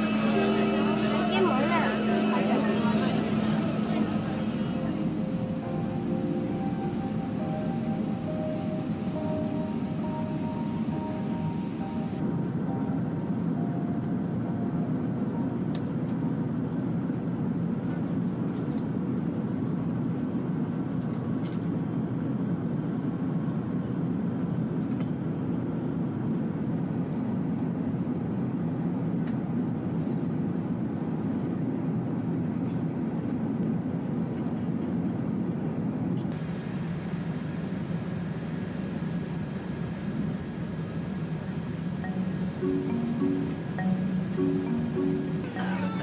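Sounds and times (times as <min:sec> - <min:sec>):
jet engine and airflow drone: 0:00.0 - 0:46.0.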